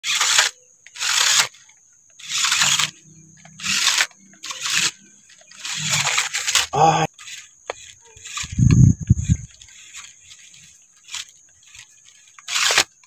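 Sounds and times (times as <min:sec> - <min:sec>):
toy truck tyres crunching dirt: 0:00.0 - 0:13.0.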